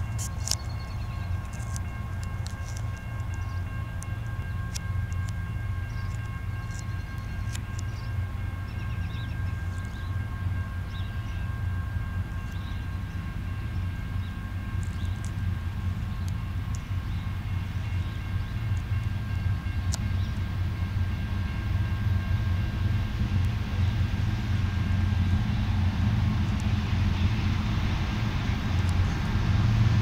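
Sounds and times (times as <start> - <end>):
freight train rumble: 0.0 - 30.0.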